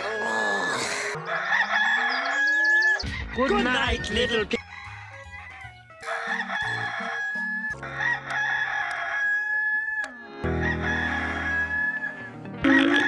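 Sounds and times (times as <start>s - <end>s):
rooster crowing: 0.0s - 3.3s, 4.5s - 13.0s.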